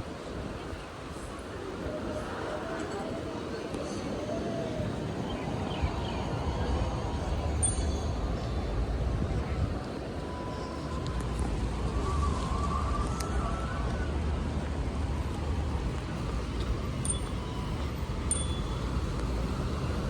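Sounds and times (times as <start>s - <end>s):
traffic hum: 0.0s - 20.0s.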